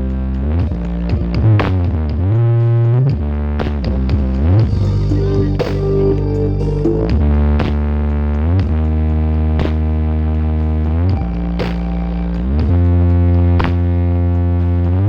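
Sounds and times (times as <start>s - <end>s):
deep sliding bass notes: 0.0s - 15.0s.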